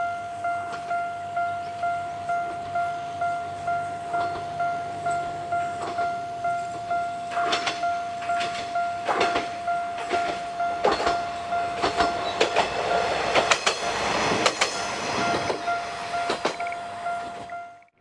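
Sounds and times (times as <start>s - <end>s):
faint pulsing high tone: 0.0s - 18.0s
railcar passing: 0.0s - 18.0s
wheels clacking over rail joints: 0.4s - 18.0s.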